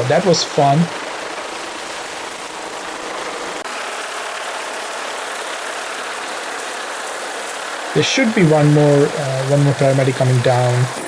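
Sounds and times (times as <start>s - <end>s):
helicopter hovering: 0.0s - 11.0s.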